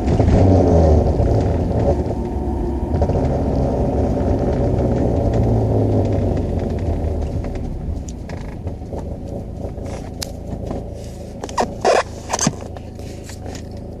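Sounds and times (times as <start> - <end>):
van engine rumble: 0.0 - 14.0.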